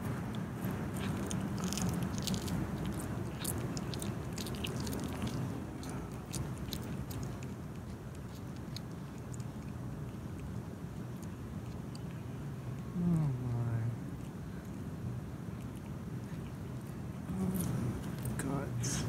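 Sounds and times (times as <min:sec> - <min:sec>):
cat chewing and crunching: 0:00.0 - 0:19.0.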